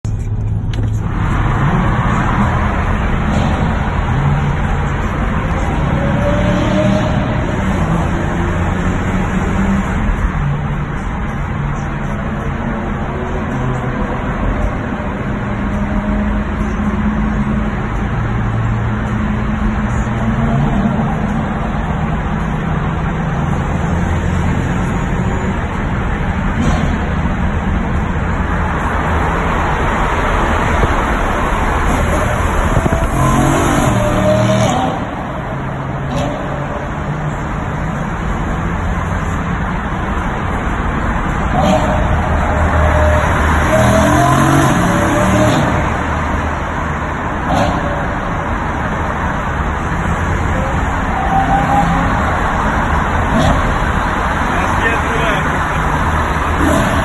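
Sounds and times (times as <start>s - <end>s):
car engine running loud: 0.0s - 57.0s
steady rush of noise: 0.0s - 57.0s.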